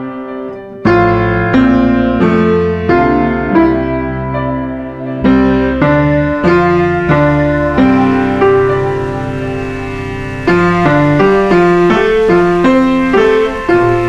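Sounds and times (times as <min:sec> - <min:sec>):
slow piano tune: 0:00.0 - 0:14.0.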